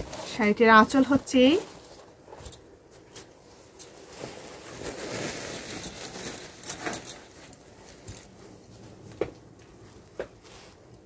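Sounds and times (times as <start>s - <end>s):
sharp crinkles: 0.0s - 9.8s
silk fabric rustling: 0.0s - 11.0s.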